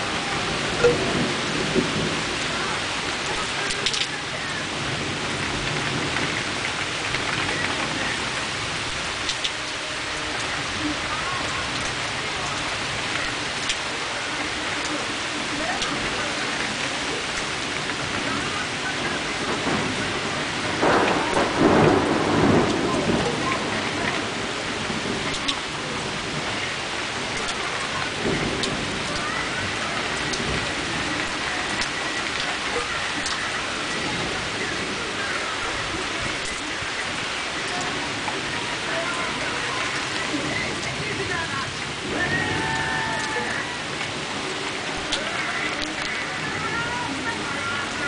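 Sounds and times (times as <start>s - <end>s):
heavy rain falling: 0.0s - 48.0s
thunder rumbling: 0.0s - 48.0s
sharp raindrop ticks: 0.7s - 48.0s.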